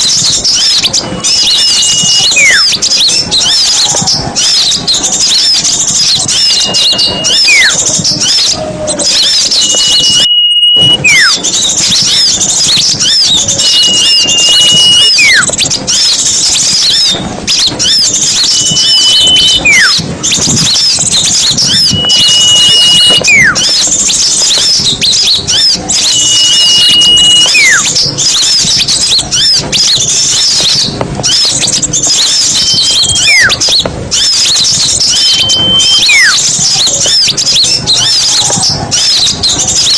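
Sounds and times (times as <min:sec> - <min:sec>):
songbirds chirping and trilling: 0:00.0 - 0:39.9
bird whistle with falling note: 0:00.2 - 0:05.3, 0:06.1 - 0:20.0, 0:20.6 - 0:39.9.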